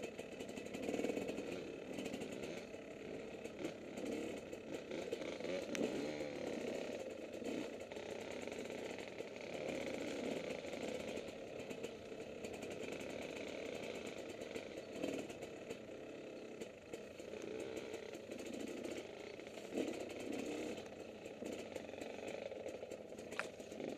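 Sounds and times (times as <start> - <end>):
motocross bike engine: 0.0 - 23.9.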